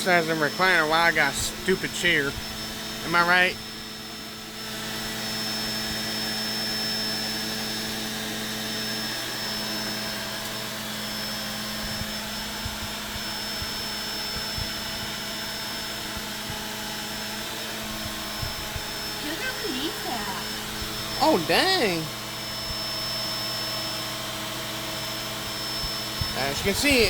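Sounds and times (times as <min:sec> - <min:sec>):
vacuum cleaner running on carpet: 0:00.0 - 0:27.0.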